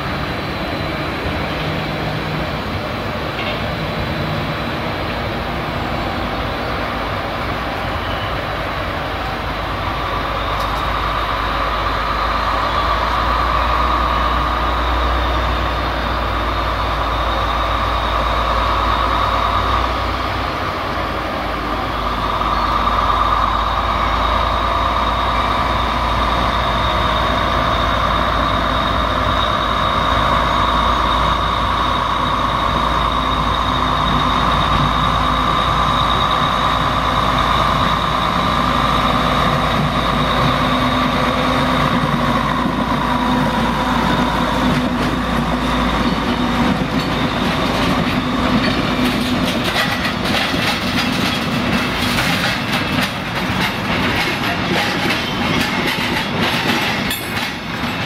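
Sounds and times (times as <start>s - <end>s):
locomotives rumbling: 0.0s - 58.0s.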